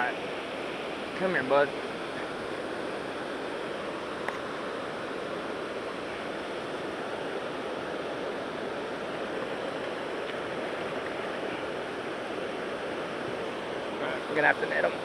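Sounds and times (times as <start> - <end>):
rush of moving water: 0.0 - 15.0.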